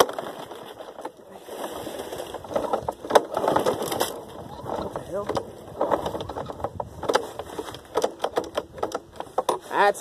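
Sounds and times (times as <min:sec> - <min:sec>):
lawn mower knocking and rattling: 0:00.0 - 0:10.0.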